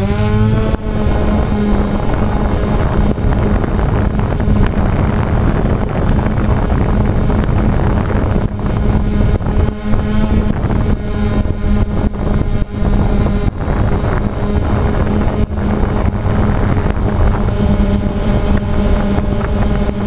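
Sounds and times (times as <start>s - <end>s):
drone motors humming and whining: 0.0s - 20.0s
rough rushing noise: 0.0s - 20.0s.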